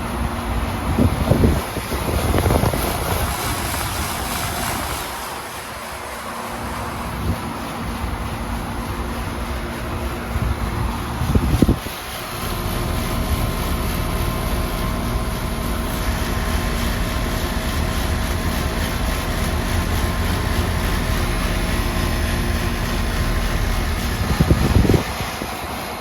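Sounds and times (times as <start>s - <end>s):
wind gust on microphone: 0.0s - 6.1s, 7.0s - 20.5s, 21.5s - 26.0s
air conditioner unit humming: 0.0s - 26.0s.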